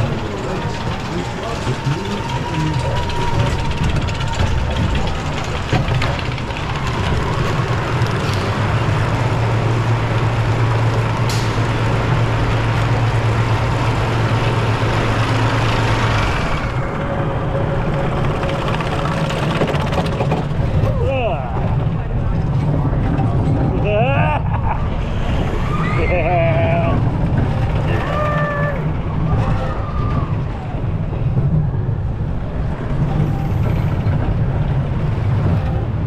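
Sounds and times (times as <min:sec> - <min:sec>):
roller coaster mechanical running: 0:00.0 - 0:36.0.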